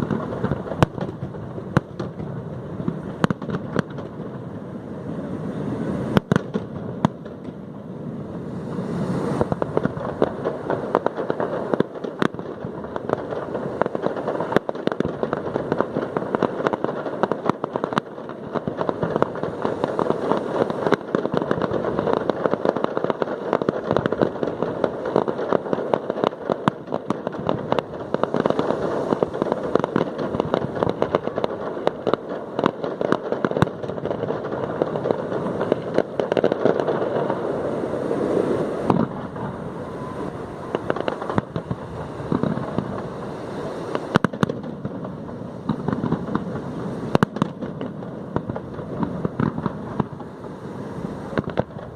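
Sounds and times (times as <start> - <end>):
fireworks cracking and popping: 0.0 - 51.9
sharp fireworks bangs: 0.0 - 51.9.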